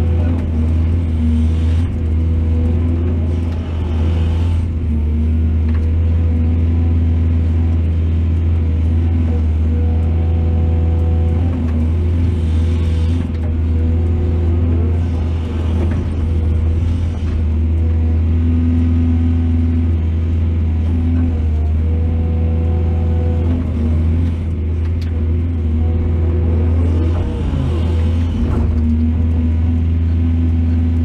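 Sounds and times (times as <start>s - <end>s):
heavy diesel engine droning: 0.0s - 31.0s.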